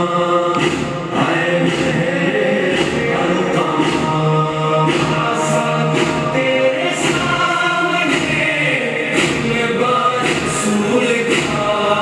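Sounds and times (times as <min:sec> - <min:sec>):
group of voices chanting song: 0:00.0 - 0:12.0.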